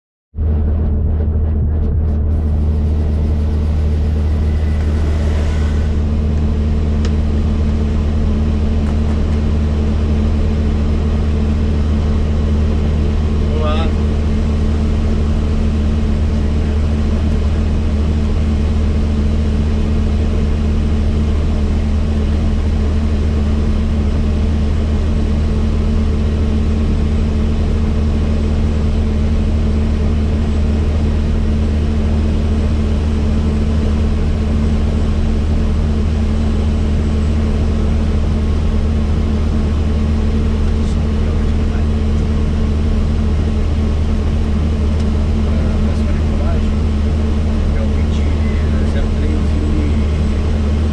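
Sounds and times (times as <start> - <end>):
helicopter drone: 0.4 - 50.9.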